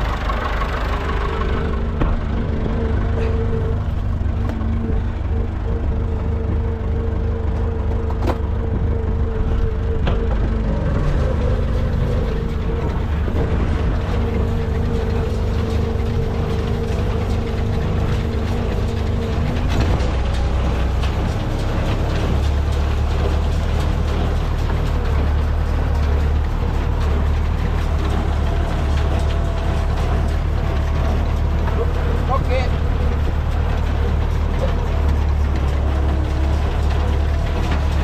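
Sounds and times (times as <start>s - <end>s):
tractor engine drone: 0.0s - 38.0s.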